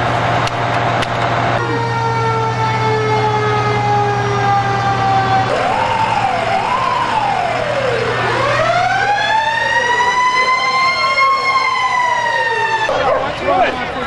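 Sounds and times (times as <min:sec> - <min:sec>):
faint second siren: 0:01.6 - 0:13.7
ambulance siren wailing: 0:01.6 - 0:14.0.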